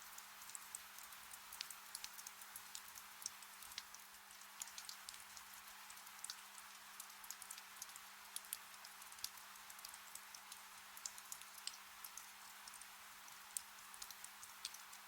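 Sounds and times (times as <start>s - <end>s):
gentle rain hiss: 0.0s - 15.0s
raindrops ticking: 0.0s - 15.0s.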